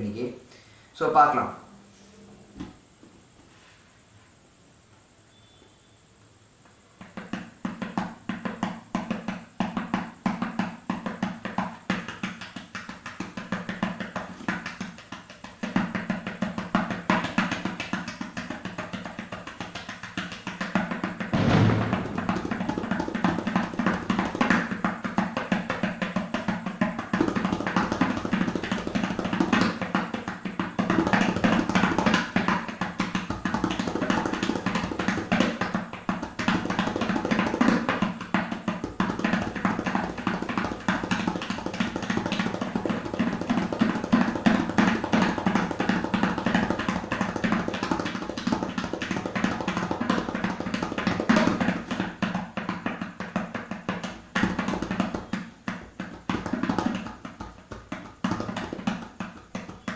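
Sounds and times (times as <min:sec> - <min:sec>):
fast tabla strokes: 0:07.0 - 0:59.9.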